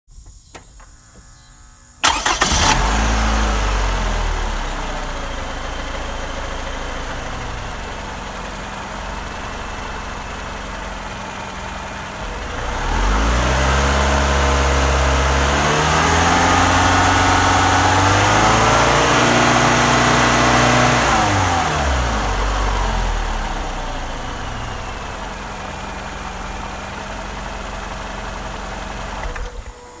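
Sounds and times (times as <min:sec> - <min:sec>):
car engine starting and revving: 0:02.0 - 0:29.9.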